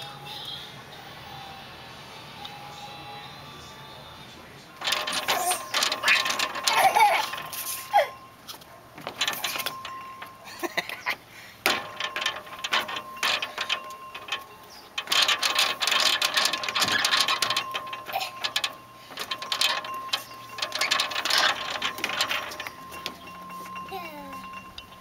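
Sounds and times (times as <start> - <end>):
footsteps on metal bridge: 4.8 - 25.0.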